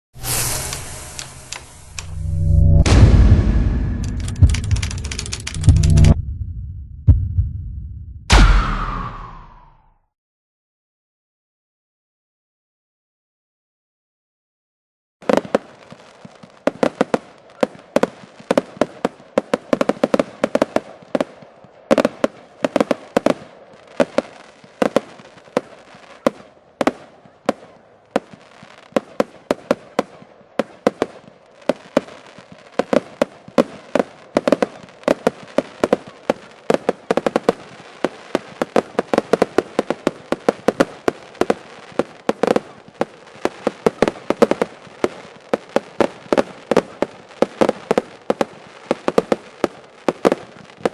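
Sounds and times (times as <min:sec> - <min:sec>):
fireworks bangs: 0:00.2 - 0:06.2, 0:08.3 - 0:09.8, 0:15.2 - 0:50.9.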